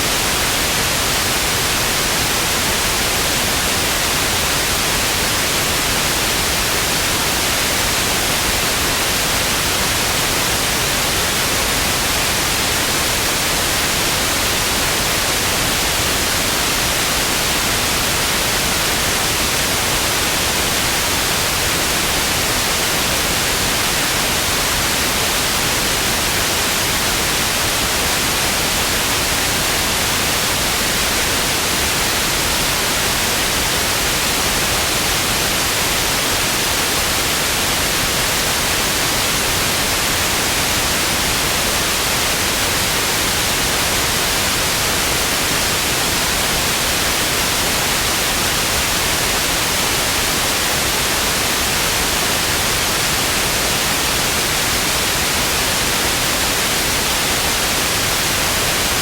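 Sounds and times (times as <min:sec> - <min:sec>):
television static hiss: 0:00.0 - 0:59.0.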